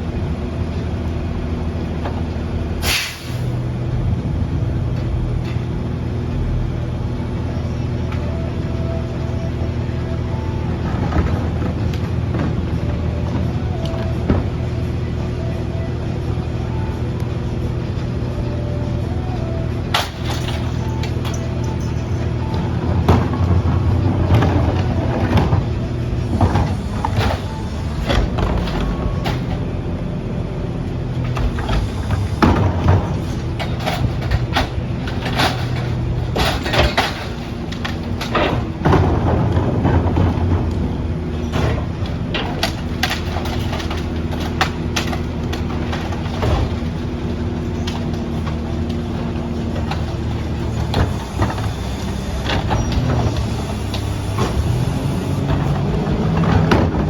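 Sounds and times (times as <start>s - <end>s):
garbage truck engine running: 0.0s - 57.0s.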